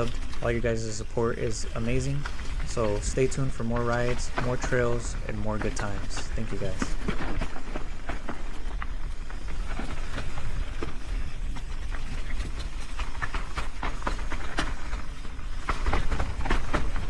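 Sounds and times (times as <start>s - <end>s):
bike chain and frame rattling: 0.0s - 17.0s
bike tyres rolling on dirt: 0.0s - 17.0s.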